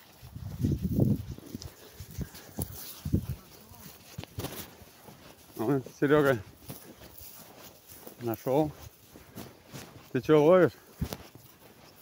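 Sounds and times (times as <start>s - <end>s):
footsteps on grass: 0.0s - 12.0s.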